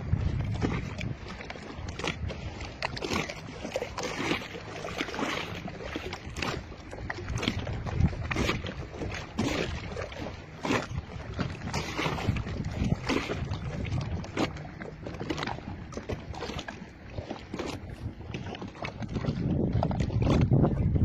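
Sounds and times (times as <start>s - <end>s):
small waves lapping: 0.0s - 21.0s
wind rumbling on microphone: 0.0s - 21.0s.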